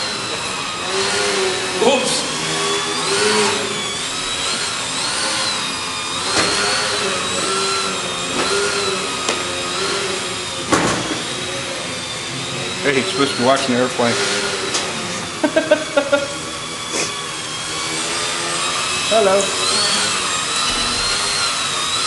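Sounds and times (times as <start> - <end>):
electric motor propeller whining: 0.0 - 22.0.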